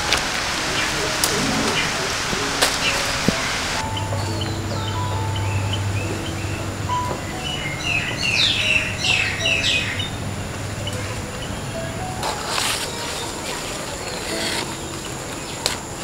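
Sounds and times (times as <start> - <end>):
wild birds chirping: 0.3 - 16.0.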